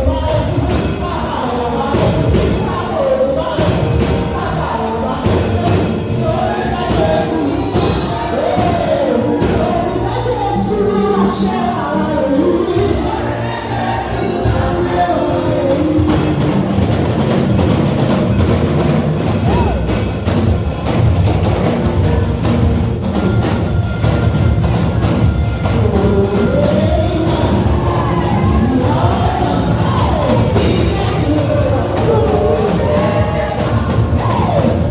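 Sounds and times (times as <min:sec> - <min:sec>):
people singing praise music: 0:00.0 - 0:21.1, 0:25.1 - 0:34.9
drum kit: 0:00.0 - 0:34.9.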